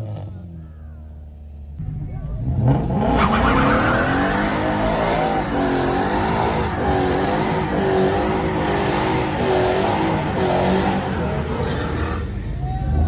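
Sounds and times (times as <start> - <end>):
car engine revving: 1.3 - 13.0.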